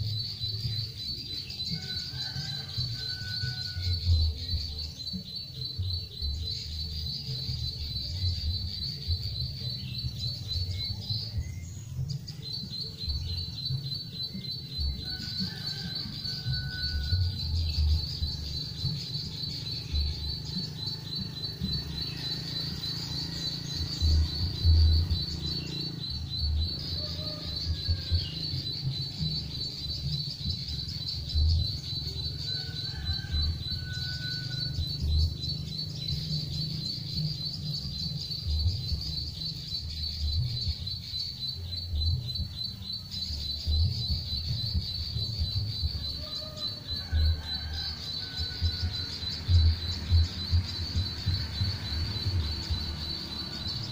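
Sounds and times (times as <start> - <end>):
insect trill: 0.0 - 53.9.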